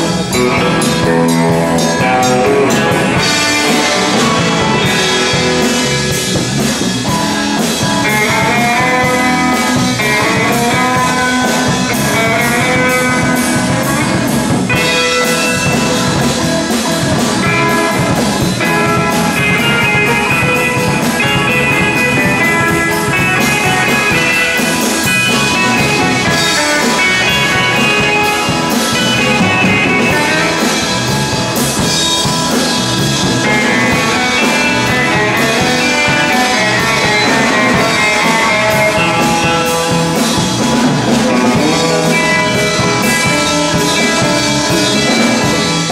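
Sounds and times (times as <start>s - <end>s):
drum kit beat: 0.0s - 45.9s
electric guitar: 0.0s - 45.9s.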